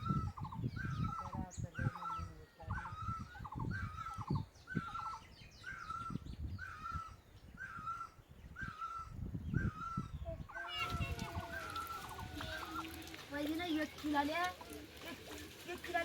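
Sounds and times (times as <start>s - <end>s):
animal call: 0.0s - 13.2s.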